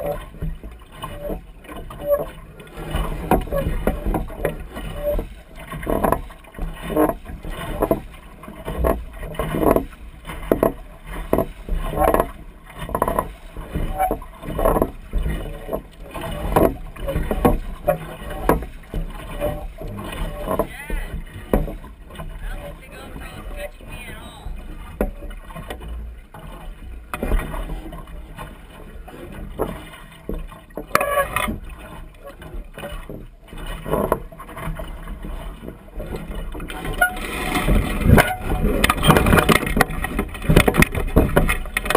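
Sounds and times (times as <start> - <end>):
water slapping against hull: 0.0 - 41.9.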